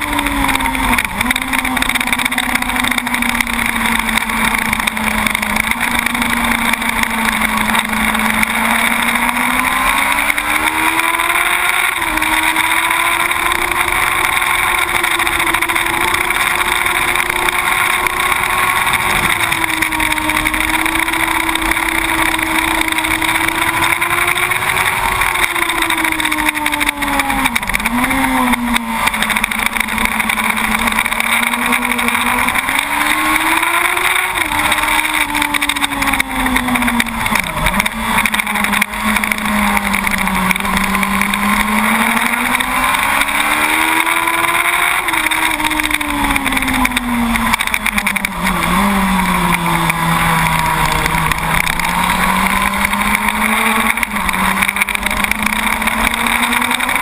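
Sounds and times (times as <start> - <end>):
motorcycle engine running hard: 0.0 - 57.0
steady rush of noise: 0.0 - 57.0.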